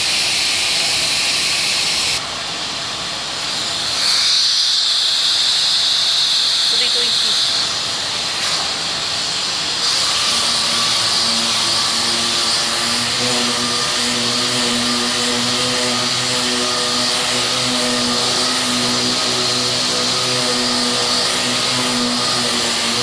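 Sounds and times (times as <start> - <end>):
power sander hissing: 0.0 - 23.0.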